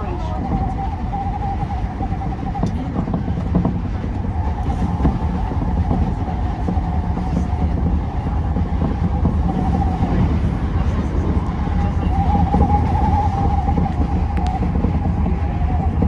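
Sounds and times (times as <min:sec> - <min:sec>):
constant mid-pitched tone: 0:00.0 - 0:16.0
train wheels rumbling on rail: 0:00.0 - 0:16.0.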